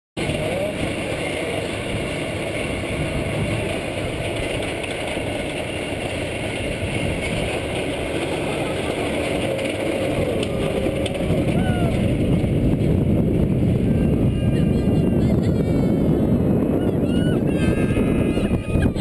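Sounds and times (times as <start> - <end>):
roller coaster train rumbling on track: 0.2 - 19.0.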